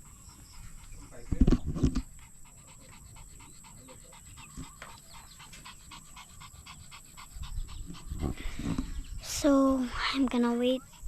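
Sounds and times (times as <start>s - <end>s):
faint dog panting: 0.0s - 11.0s.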